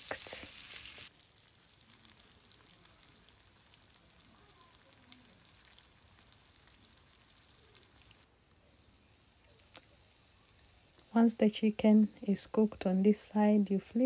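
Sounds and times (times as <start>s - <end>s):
small crackles: 0.0s - 13.8s
chicken frying in oil: 0.0s - 14.0s.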